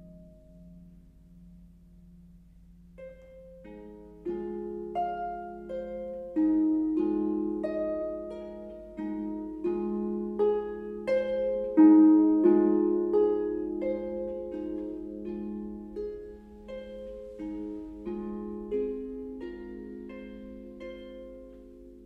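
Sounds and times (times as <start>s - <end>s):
harp plucked notes: 0.0s - 22.0s.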